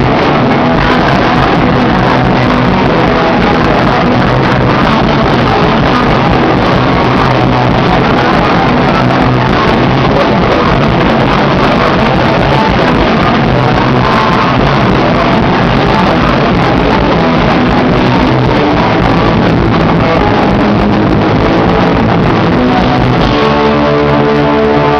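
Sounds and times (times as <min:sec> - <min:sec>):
electric guitar: 0:00.0 - 0:24.9
live rock band playing: 0:00.0 - 0:24.9.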